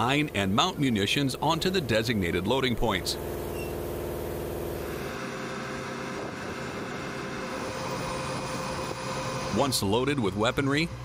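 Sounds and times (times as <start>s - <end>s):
jet aircraft engines running: 0.0s - 11.0s
steady machine hum: 0.0s - 11.0s
thin steady whine: 0.0s - 11.0s.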